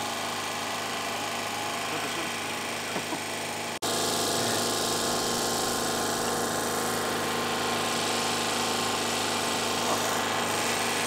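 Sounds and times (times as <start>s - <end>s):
petrol generator engine drone: 0.0s - 11.0s.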